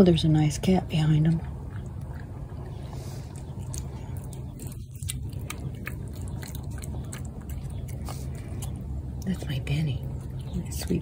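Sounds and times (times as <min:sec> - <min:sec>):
steady low rumble: 0:00.0 - 0:11.0
cat chewing wet food: 0:00.8 - 0:11.0.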